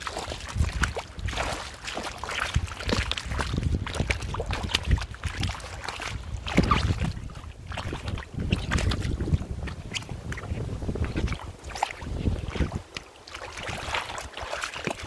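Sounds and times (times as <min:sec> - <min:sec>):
boots squelching in wet mud: 0:00.0 - 0:15.0.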